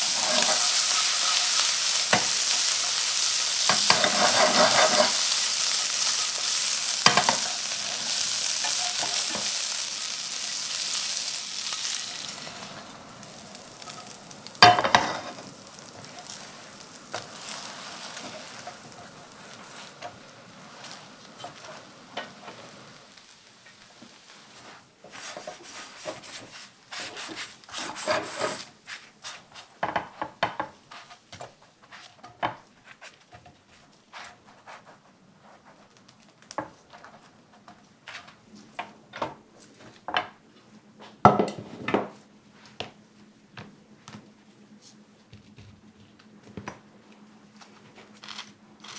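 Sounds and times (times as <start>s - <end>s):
bread sizzling in a frying pan: 0.0s - 38.4s, 48.0s - 48.9s.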